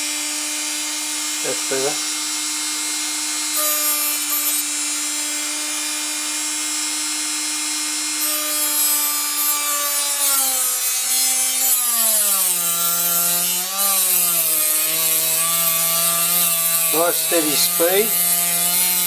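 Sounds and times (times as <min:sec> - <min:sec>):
rotary tool whining: 0:00.0 - 0:19.0.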